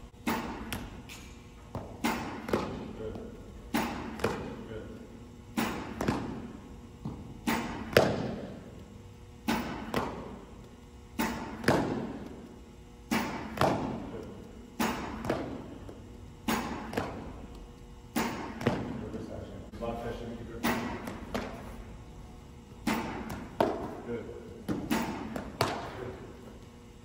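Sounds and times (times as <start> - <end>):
pitching machine firing balls: 0.1 - 4.7, 5.3 - 19.2, 20.4 - 21.6, 22.6 - 26.4.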